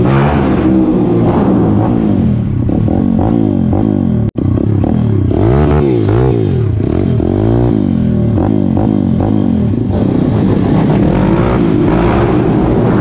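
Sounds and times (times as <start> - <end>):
pit bike engine revving: 0.0 - 13.0.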